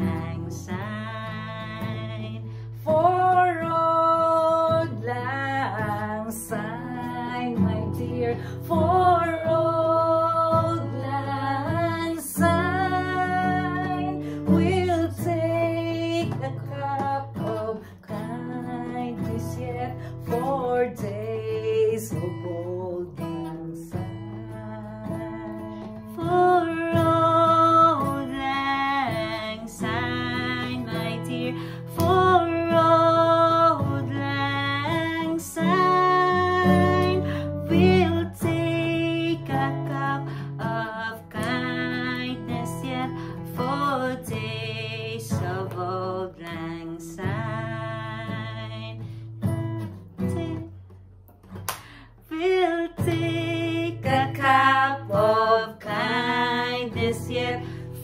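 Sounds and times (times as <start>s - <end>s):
women singing: 0.0s - 50.8s, 52.2s - 58.0s
acoustic guitar strumming: 0.0s - 58.0s.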